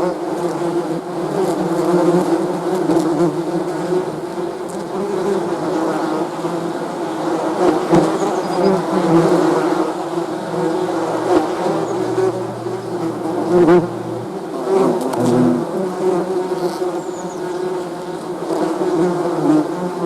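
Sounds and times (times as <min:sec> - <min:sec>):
bees buzzing: 0:01.2 - 0:20.0.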